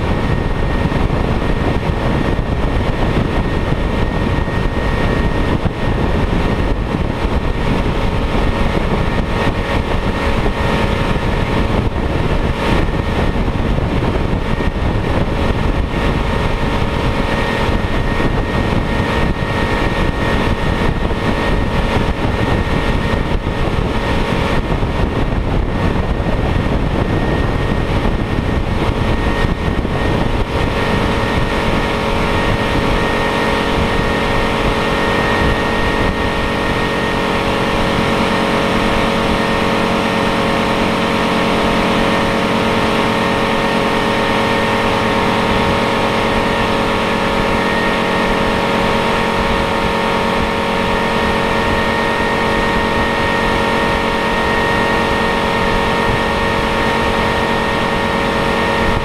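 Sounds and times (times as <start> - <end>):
motorboat engine droning: 0.0 - 59.0
water rushing past hull: 0.0 - 59.0
wind: 0.0 - 59.0.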